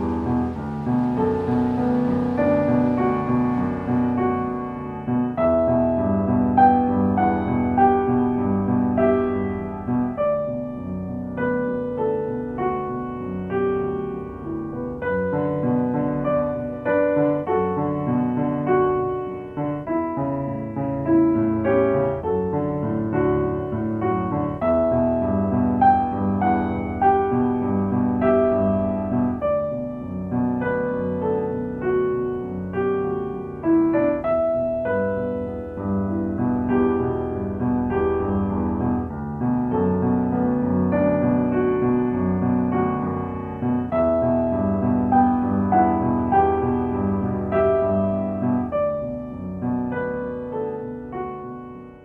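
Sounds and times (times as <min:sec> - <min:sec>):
soft piano music: 0:00.0 - 0:52.0.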